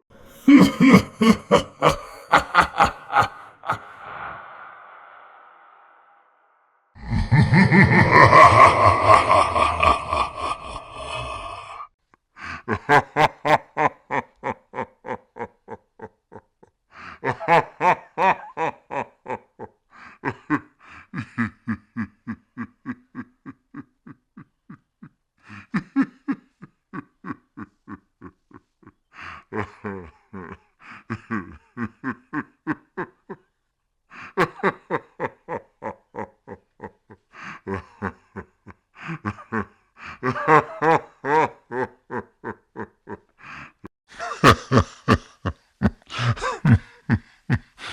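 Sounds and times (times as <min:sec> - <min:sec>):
creepy ghost laughing: 0:00.1 - 0:11.9, 0:12.6 - 0:16.5, 0:17.2 - 0:33.5, 0:34.2 - 0:47.9.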